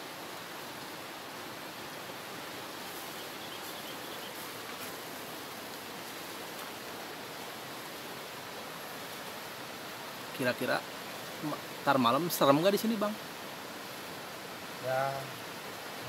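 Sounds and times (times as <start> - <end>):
fast-flowing river rushing: 0.0 - 16.0.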